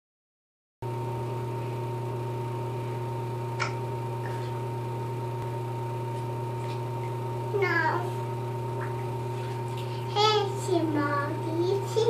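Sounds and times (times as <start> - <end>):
exhaust fan hum: 0.8 - 12.0.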